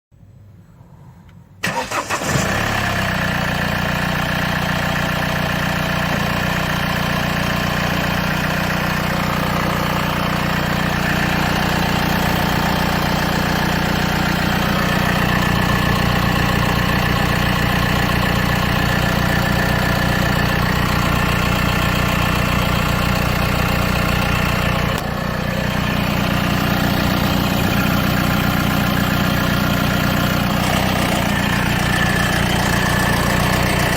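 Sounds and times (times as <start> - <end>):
diesel engine cranking: 1.6 - 33.9
diesel engine idling: 1.6 - 33.9.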